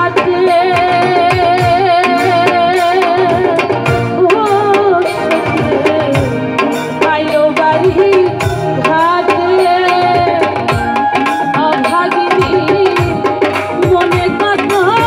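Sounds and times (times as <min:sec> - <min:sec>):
band playing: 0:00.0 - 0:15.0
tabla strokes: 0:00.0 - 0:15.0
woman singing: 0:00.0 - 0:15.0.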